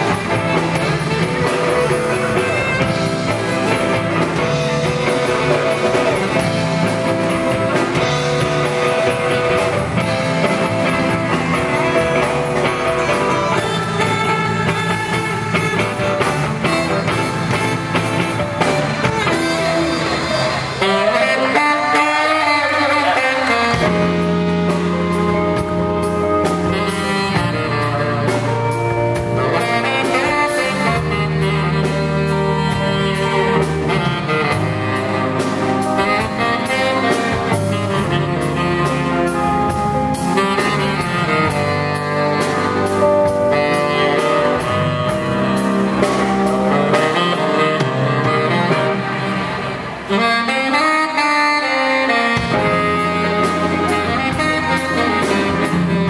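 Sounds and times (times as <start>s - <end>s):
live backing band: 0.0s - 56.0s
tenor saxophone solo: 0.0s - 56.0s.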